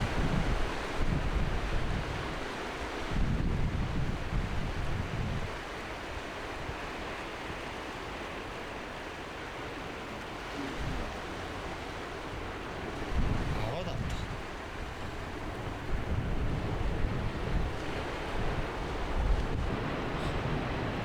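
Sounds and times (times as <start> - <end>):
wind buffeting microphone: 0.0 - 7.6, 10.2 - 21.0
sea waves washing on shore: 0.0 - 21.0.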